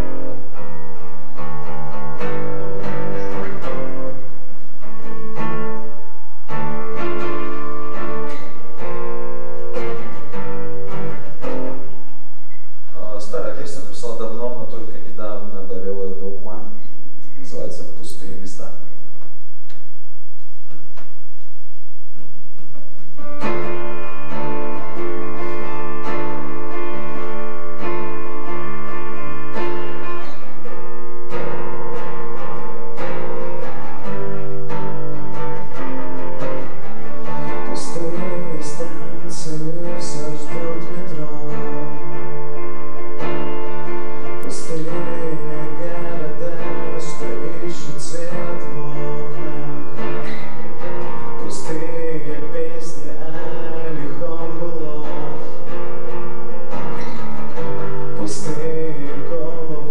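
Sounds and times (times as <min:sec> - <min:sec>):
guitar music: 0:00.0 - 0:59.9.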